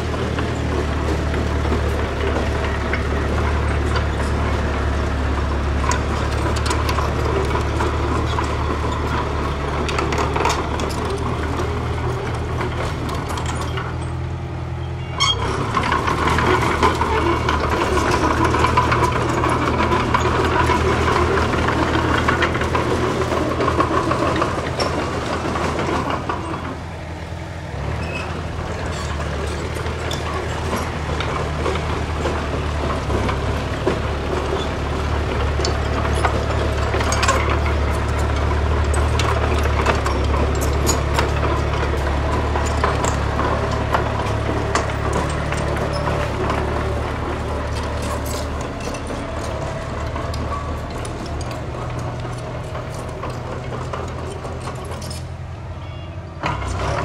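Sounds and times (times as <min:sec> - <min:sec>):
knocks and clatter: 0:00.0 - 0:26.9, 0:27.8 - 0:55.6, 0:56.4 - 0:57.0
diesel earthmoving machinery running: 0:00.0 - 0:57.0.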